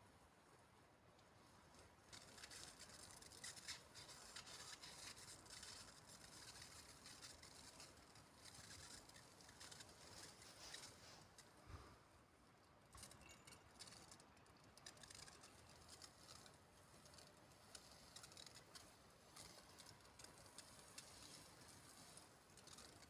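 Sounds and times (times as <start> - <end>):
faint ticks and rustles: 0.0 - 23.0.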